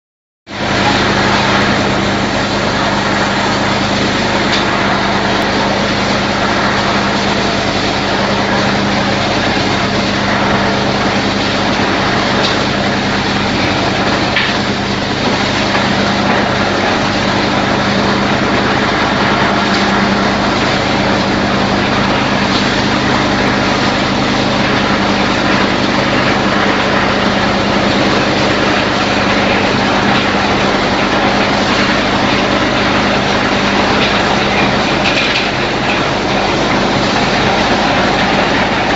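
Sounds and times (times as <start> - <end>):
loud machinery drone: 0.5 - 38.9
low motor hum: 0.5 - 38.9.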